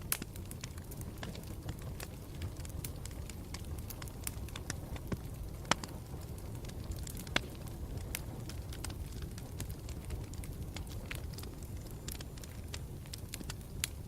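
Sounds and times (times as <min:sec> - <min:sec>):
fire crackling and popping: 0:00.0 - 0:14.0
low rumble of campfire: 0:00.0 - 0:14.0.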